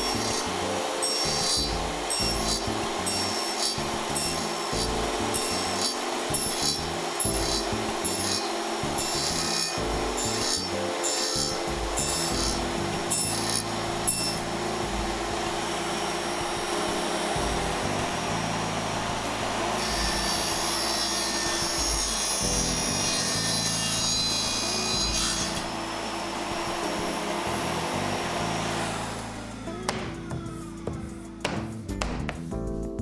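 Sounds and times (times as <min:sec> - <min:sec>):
saw cutting wood: 0:00.0 - 0:32.0.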